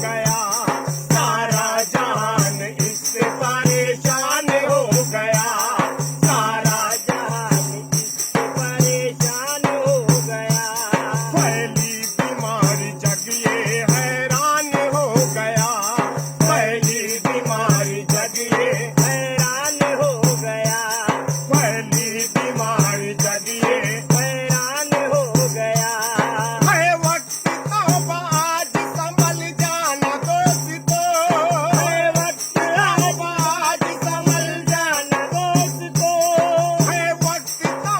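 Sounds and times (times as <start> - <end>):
jingling rattle: 0.0 - 37.9
low drum beat: 0.0 - 37.9.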